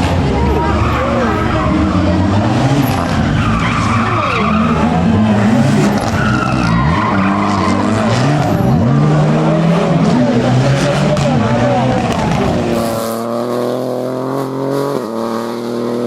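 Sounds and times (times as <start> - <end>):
rally car engine revving: 0.0 - 16.0
tyres skidding: 0.0 - 16.0.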